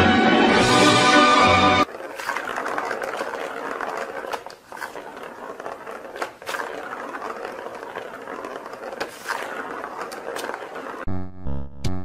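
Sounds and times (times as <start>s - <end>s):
ball rolling on plastic track: 1.3s - 11.1s.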